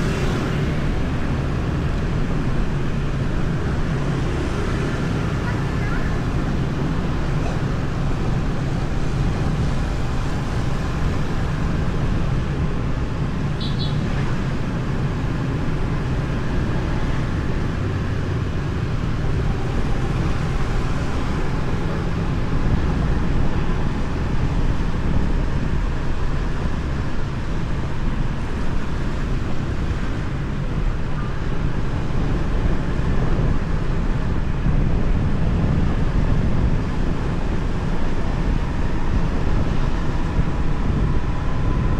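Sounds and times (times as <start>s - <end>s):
road noise: 0.0s - 41.9s
wind noise: 0.0s - 41.9s.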